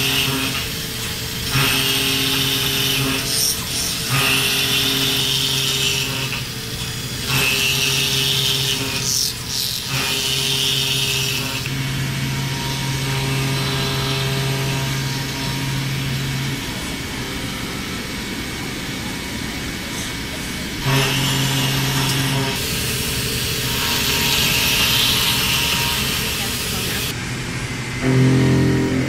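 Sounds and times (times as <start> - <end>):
high-pitched metal cutting: 0.0 - 29.0
milling machine hum: 0.0 - 29.0.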